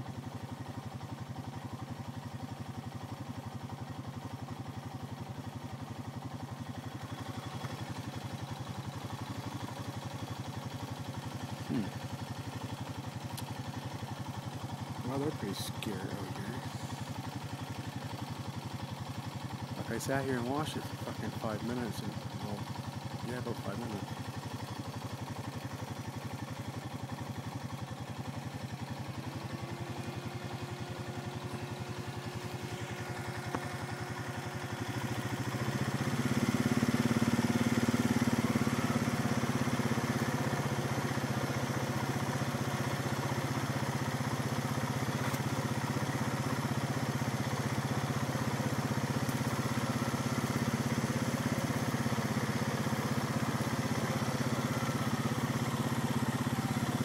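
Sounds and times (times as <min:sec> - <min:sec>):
atv engine idling and revving: 0:00.0 - 0:57.0.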